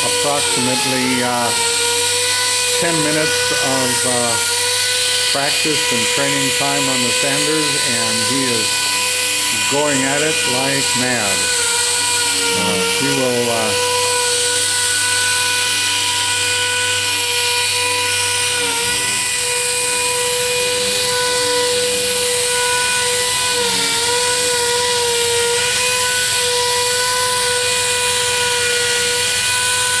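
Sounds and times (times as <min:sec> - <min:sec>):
power sander whining: 0:00.0 - 0:30.0.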